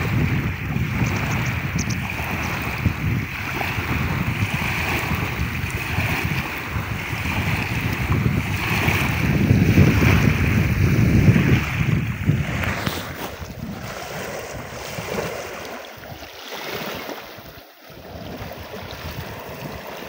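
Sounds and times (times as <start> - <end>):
waves lapping on pebbles: 0.0 - 20.0
wind buffeting microphone: 0.0 - 20.0.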